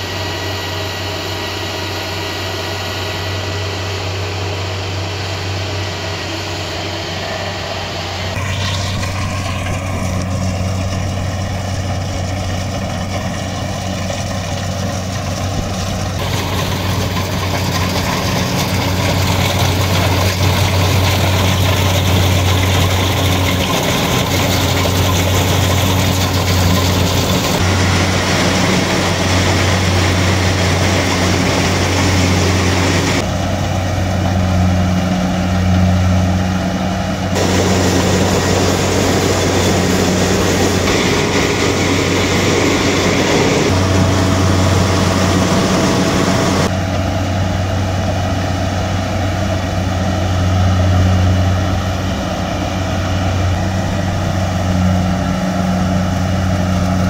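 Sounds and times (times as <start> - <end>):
diesel engine hum: 0.0 - 57.0
harvester machinery noise: 0.0 - 57.0.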